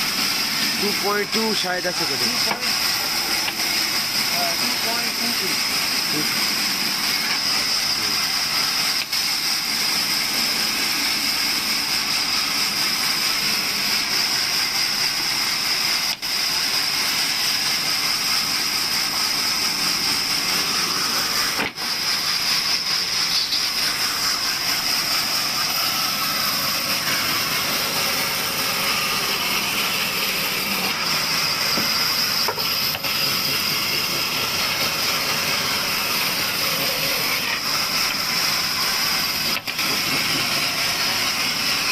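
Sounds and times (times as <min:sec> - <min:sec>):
table saw whining hiss: 0:00.0 - 0:41.9.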